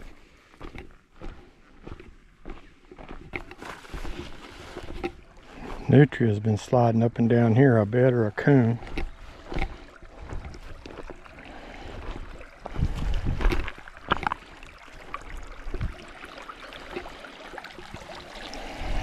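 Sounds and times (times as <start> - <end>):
faint creek water trickling: 0.0 - 19.0.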